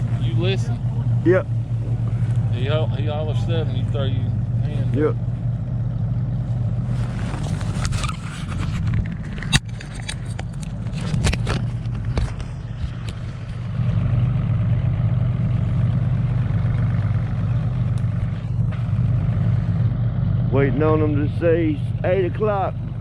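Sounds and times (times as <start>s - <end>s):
outboard engine idling: 0.0s - 23.0s.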